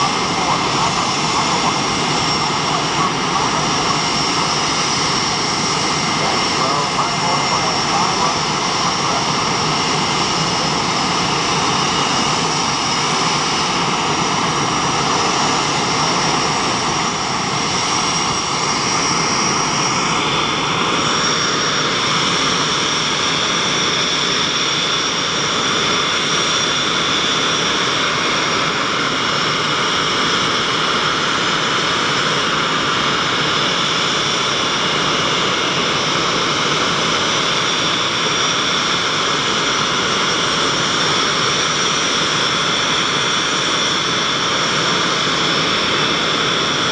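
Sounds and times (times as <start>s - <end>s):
jet engines roaring with whine: 0.0s - 46.9s.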